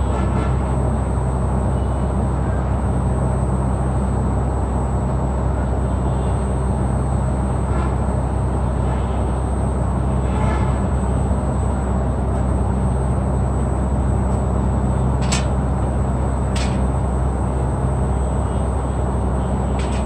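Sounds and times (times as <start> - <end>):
compressor hum: 0.0 - 20.0.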